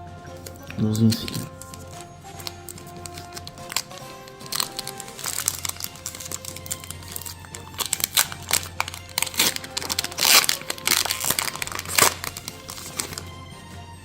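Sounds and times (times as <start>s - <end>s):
background music: 0.0s - 14.0s
foil wrapper crinkling: 0.3s - 13.3s.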